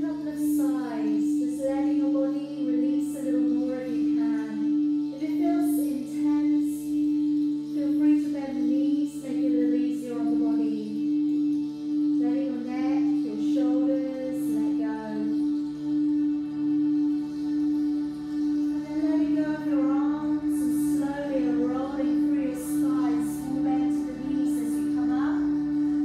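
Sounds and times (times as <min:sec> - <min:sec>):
held drone note: 0:00.0 - 0:26.0.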